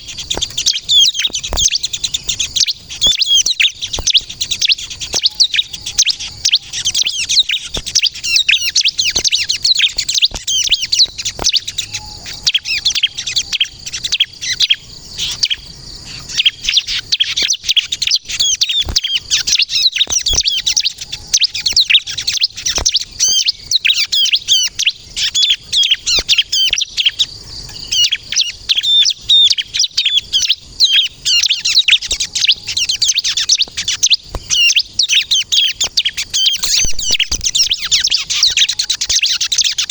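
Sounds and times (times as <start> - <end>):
bird singing chattering chirps: 0.0 - 39.9.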